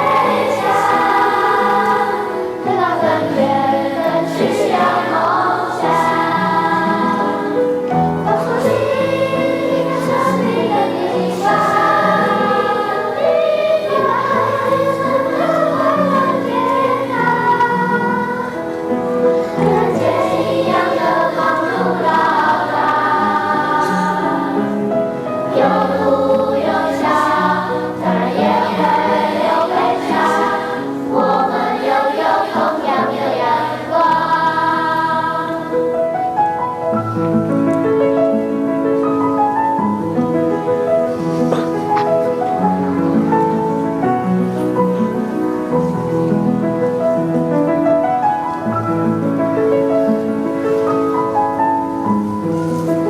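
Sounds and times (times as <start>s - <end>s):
school choir singing: 0.0s - 37.4s, 39.0s - 53.0s.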